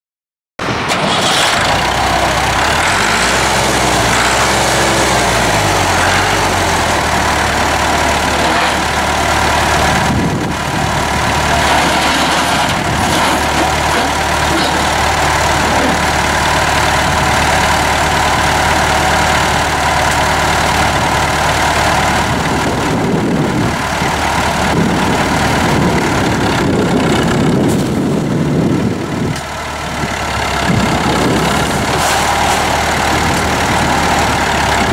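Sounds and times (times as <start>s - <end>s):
tractor engine running: 0.6s - 34.9s.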